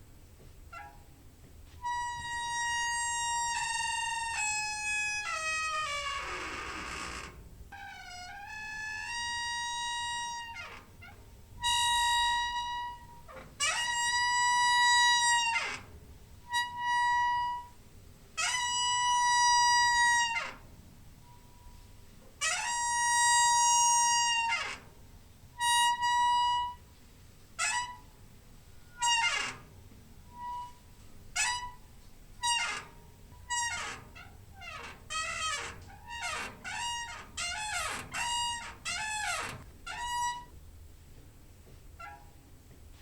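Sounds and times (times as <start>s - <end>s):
door hinge squeaking: 0.7s - 1.2s, 1.8s - 17.8s, 18.4s - 21.8s, 22.4s - 25.0s, 25.6s - 26.9s, 27.6s - 28.2s, 28.8s - 40.6s, 42.0s - 42.5s.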